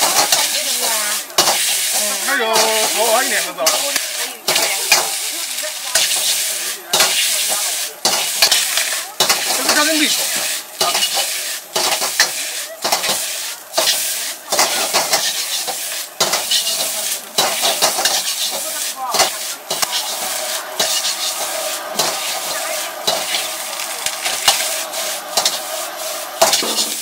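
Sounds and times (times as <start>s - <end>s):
metal ladle scraping a wok: 0.0s - 27.0s
rice sizzling in a wok: 0.0s - 27.0s.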